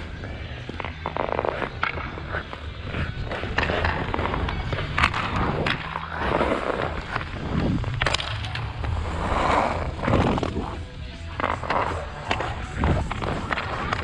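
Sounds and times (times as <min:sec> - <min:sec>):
skate blades scraping ice: 0:00.0 - 0:14.0.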